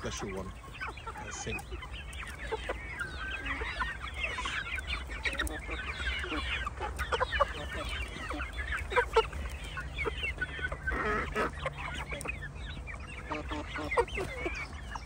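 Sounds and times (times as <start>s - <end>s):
chicks peeping and clucking: 0.0s - 15.0s.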